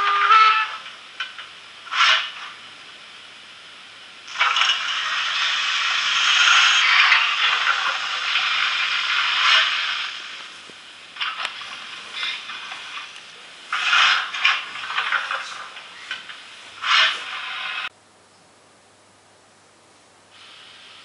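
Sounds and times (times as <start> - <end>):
steam hiss from small speaker: 0.0 - 0.8, 1.7 - 17.9, 20.3 - 21.0.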